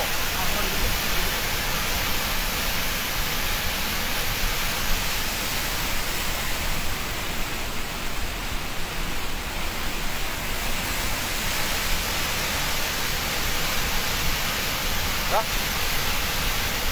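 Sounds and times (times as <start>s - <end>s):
water rushing from a sluice: 0.0s - 16.9s.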